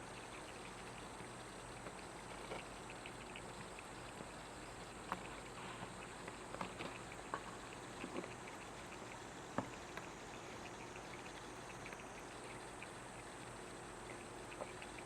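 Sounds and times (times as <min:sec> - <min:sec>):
cat chewing food: 0:00.0 - 0:15.0.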